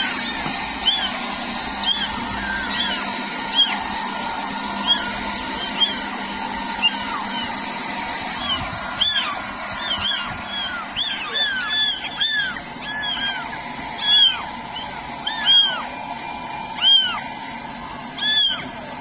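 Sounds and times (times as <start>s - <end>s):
kittens mewing: 0.0s - 19.0s
steady whir: 0.0s - 19.0s.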